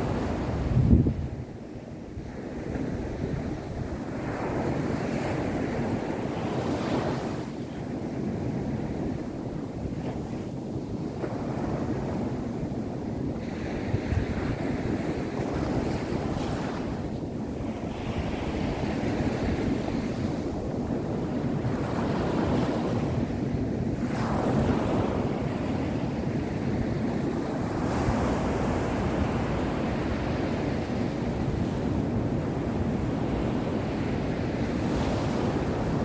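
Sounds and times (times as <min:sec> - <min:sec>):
waves breaking on beach: 0:00.0 - 0:36.0.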